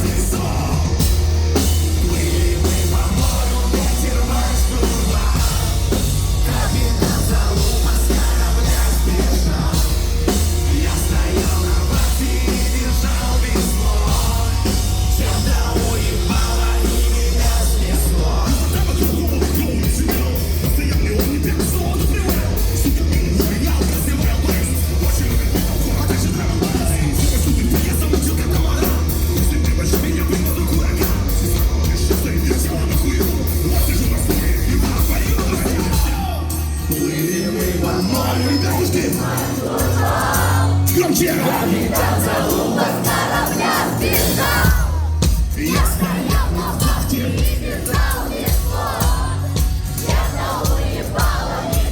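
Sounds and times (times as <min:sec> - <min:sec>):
heavy metal band playing: 0:00.0 - 0:51.9.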